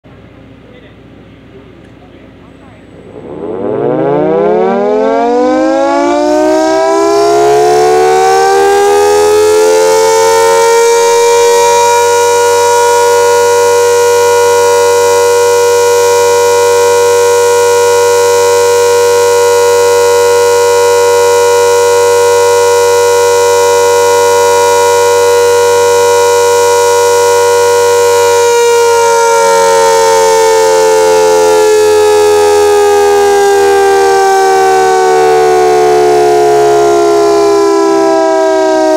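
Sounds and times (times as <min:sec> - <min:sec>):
air raid siren wailing: 0:02.7 - 0:38.9.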